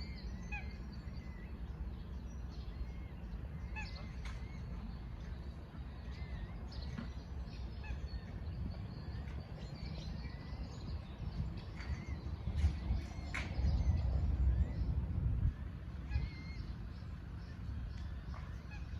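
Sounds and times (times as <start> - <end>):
birds chirping and calling: 0.0 - 18.9
steady low rumble: 0.0 - 18.9.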